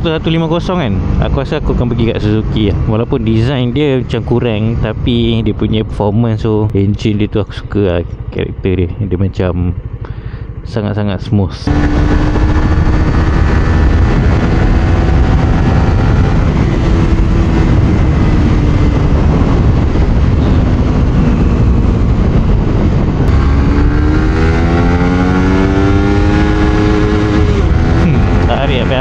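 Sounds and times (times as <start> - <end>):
wind rumble: 0.0 - 29.0
motorcycle engine running: 2.4 - 29.0.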